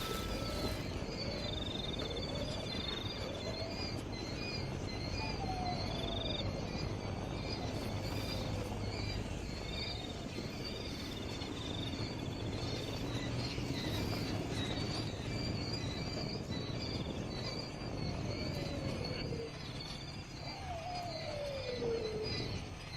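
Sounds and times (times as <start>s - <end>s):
birds or insects chirping: 0.0s - 22.9s
steady low rumble: 0.0s - 22.9s.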